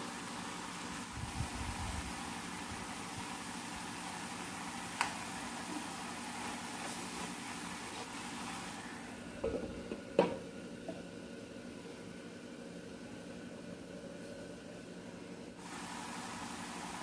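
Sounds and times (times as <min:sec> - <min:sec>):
induction cooktop humming: 0:00.0 - 0:17.0.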